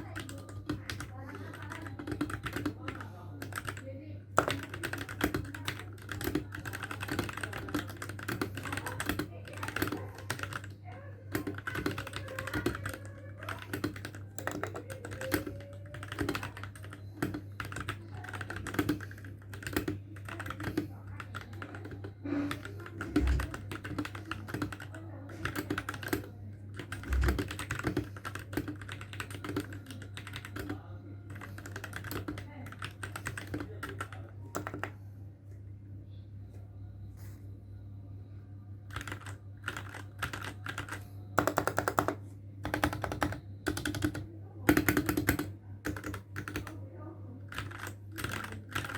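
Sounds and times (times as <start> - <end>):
mechanical keyboard typing: 0.0 - 35.0, 38.9 - 46.8, 47.4 - 48.9.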